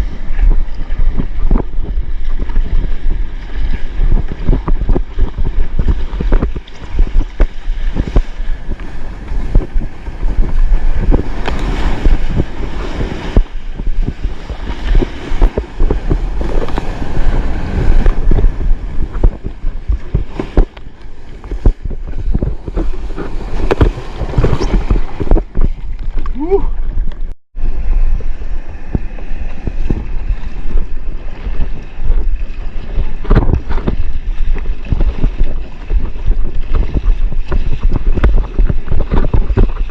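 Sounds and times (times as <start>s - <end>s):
water splashing against paddleboard: 0.0s - 39.9s
wind rumbling on microphone: 0.0s - 39.9s.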